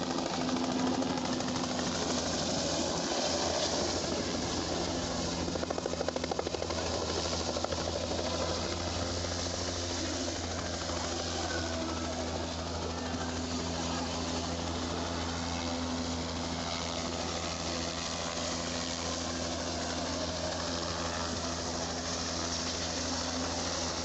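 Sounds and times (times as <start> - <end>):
helicopter rotor and engine drone: 0.0 - 24.0.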